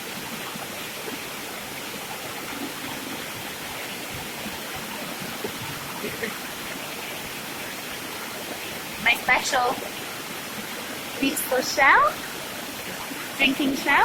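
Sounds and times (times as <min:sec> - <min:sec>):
river water flowing over rocks: 0:00.0 - 0:14.0.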